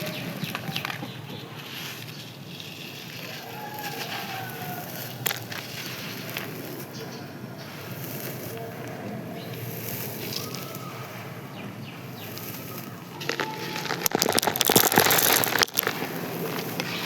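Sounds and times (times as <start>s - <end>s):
dry sand crunching: 0.0s - 17.0s
faint background noise: 0.0s - 17.0s.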